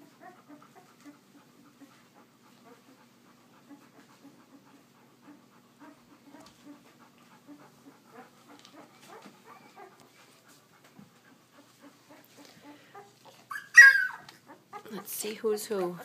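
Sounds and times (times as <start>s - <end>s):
puppies panting and squeaking: 0.0s - 16.0s.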